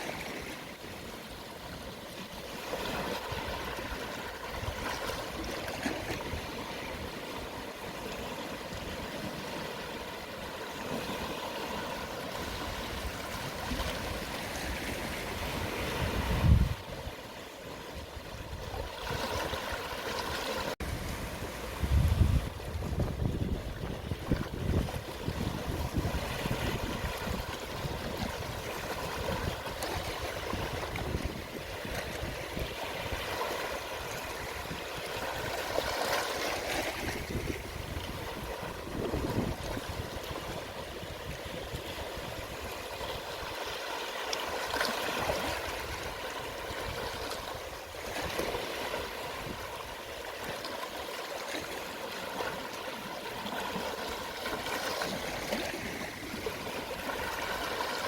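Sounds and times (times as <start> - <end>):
gentle waves washing onto shore: 0.0 - 58.0.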